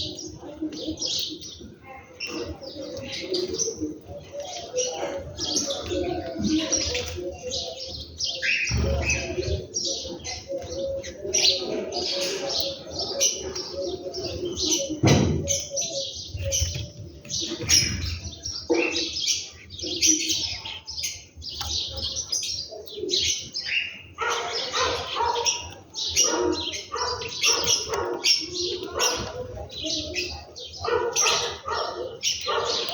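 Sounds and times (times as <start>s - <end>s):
flock of small birds chirping: 0.0s - 32.9s.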